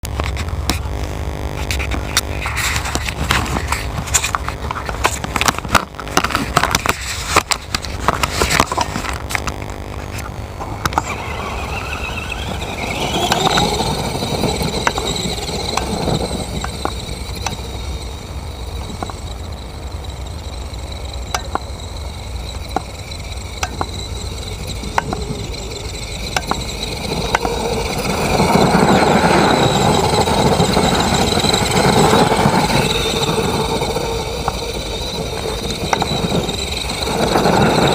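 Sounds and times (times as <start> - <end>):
truck motor under load: 1.6 - 37.9.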